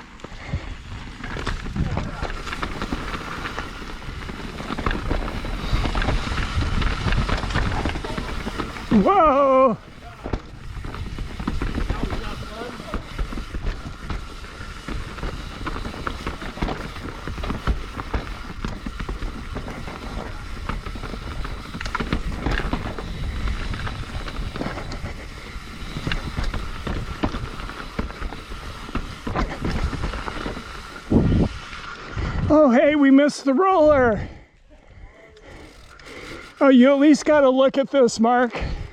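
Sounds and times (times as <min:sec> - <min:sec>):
bike rattling and knocking: 0:00.0 - 0:32.6, 0:35.4 - 0:37.5
bike tyres rolling on dirt: 0:00.0 - 0:38.9.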